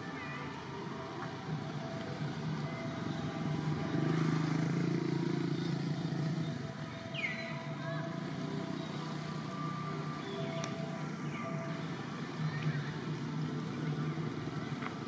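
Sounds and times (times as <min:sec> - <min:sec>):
passing vehicle engine hum: 0:00.0 - 0:15.0.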